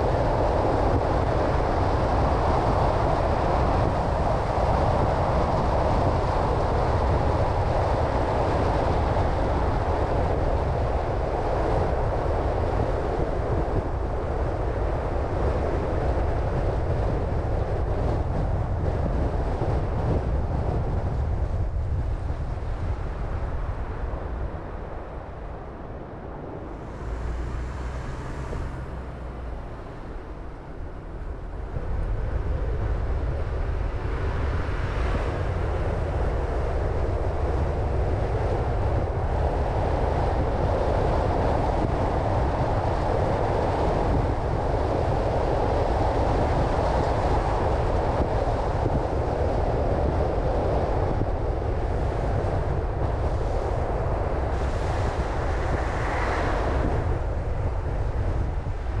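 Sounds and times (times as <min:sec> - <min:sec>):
car road wind and engine noise: 0:00.0 - 0:59.0.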